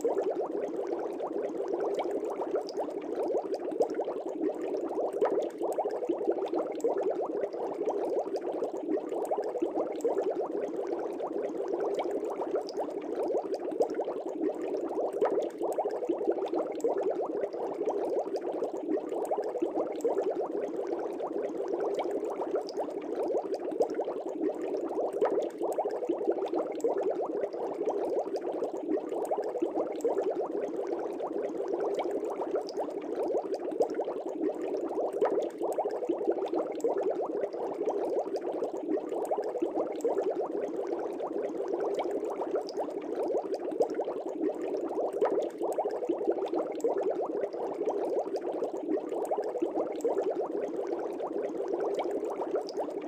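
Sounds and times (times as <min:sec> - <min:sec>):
air bubbles in fish tank: 0:00.0 - 0:53.0.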